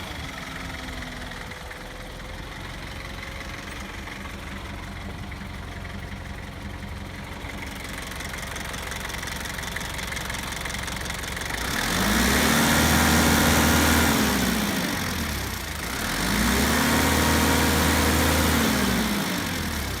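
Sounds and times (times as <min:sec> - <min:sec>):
forklift engine idling and revving: 0:00.0 - 0:20.0.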